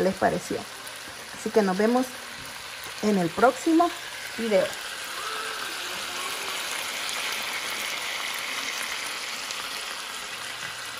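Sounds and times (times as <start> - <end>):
chicken sizzling in a frying pan: 0.0 - 10.9.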